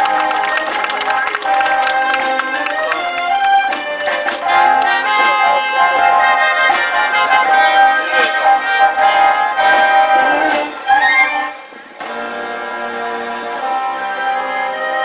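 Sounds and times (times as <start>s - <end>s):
live band with brass: 0.0s - 15.0s.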